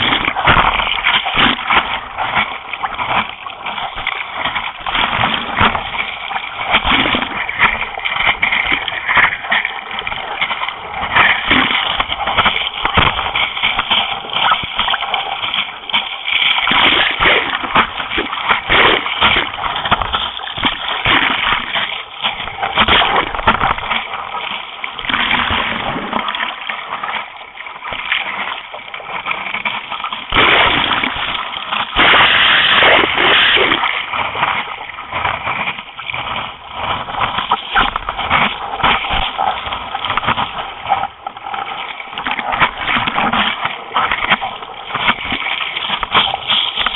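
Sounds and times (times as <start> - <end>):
rush of white water: 0.0 - 46.9
seawater splashing against board: 0.0 - 46.9.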